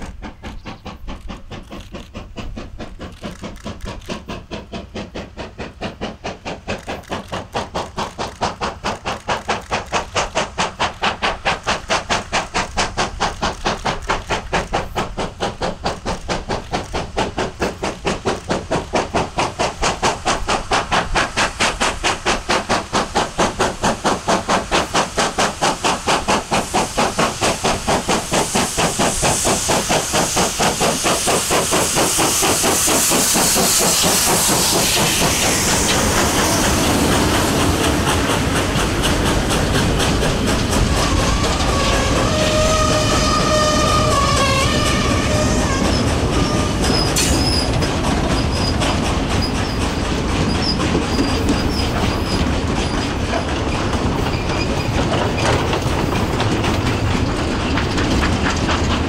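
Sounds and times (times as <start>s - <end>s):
steam hiss and rumble: 0.0s - 59.0s
steam locomotive exhaust beats: 0.0s - 59.0s.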